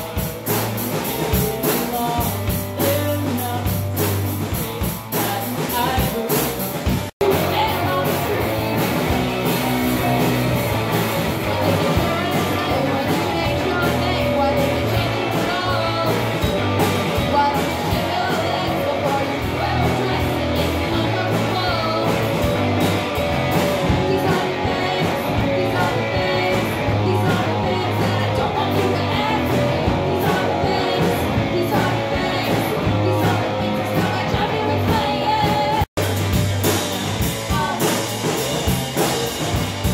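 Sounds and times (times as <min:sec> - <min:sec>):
rock band playing: 0:00.0 - 0:39.9
person singing: 0:00.9 - 0:39.2.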